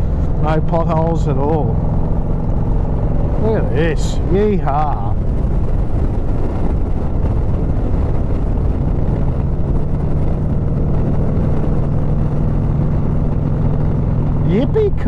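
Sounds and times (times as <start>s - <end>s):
motorcycle engine drone: 0.0s - 15.0s
wind rushing over microphone: 0.0s - 15.0s.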